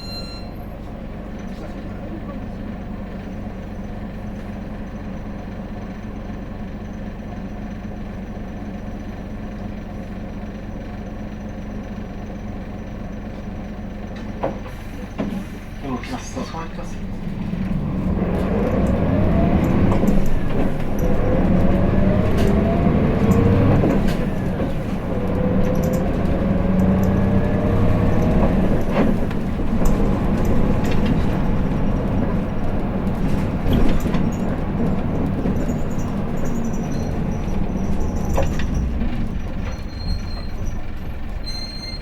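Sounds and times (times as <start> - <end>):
bus diesel engine pulling away: 0.0 - 42.0.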